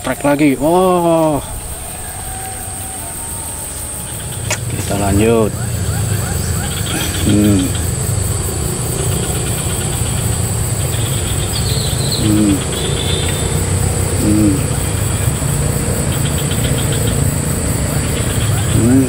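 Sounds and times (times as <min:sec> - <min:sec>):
bird chirps: 0:00.0 - 0:19.0
high-pitched insect drone: 0:00.0 - 0:19.0
steady low rumble: 0:00.0 - 0:19.0.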